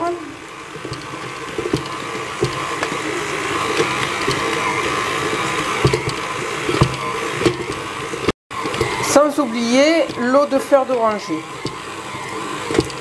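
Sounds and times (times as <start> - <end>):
stand mixer motor hum: 0.0 - 13.0
mixer knocks: 0.8 - 13.0.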